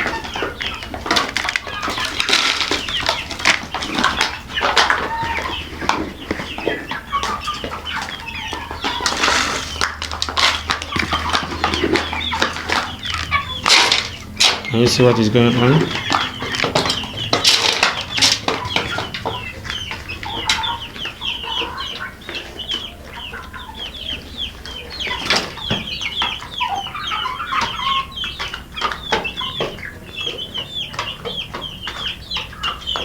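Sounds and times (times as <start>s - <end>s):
chickens pecking feed: 0.0s - 33.0s
chickens peeping and clucking: 0.0s - 33.0s.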